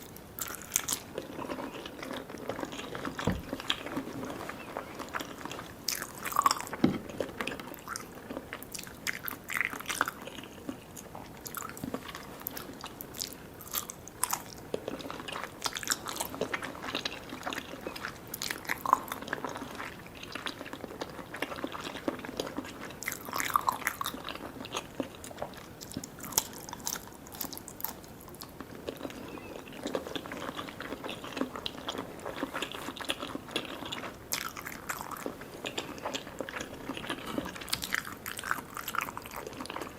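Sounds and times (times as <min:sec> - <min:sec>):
chewing sticky food: 0:00.0 - 0:39.9.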